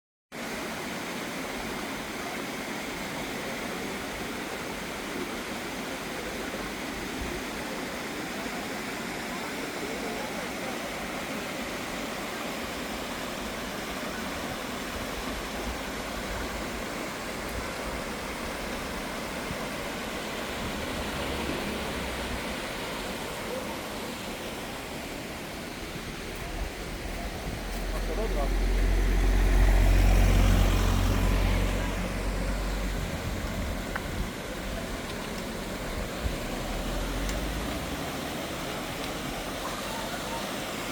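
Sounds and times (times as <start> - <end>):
waterfall rushing: 0.4 - 40.9.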